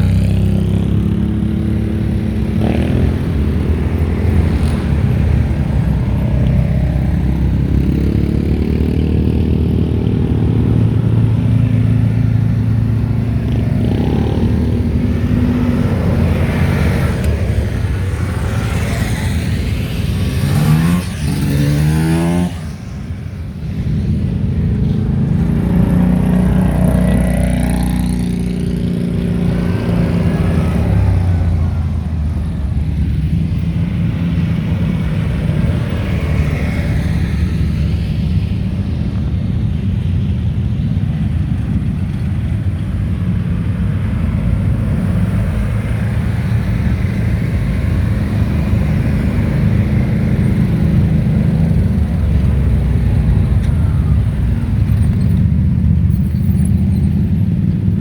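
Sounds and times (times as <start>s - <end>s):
atv engines running: 0.0s - 58.0s.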